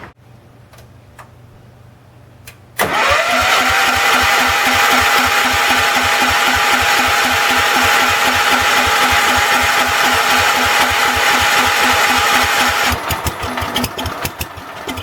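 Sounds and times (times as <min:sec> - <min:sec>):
small engine starting and running: 0:02.8 - 0:15.0.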